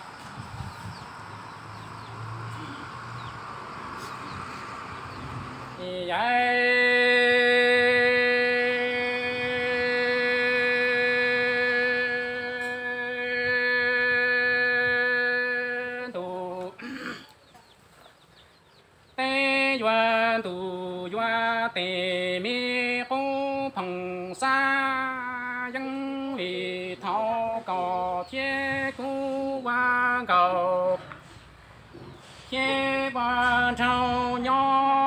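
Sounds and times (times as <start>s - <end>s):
person chanting sung poetry: 1.7s - 17.2s, 19.2s - 31.5s, 32.2s - 35.0s.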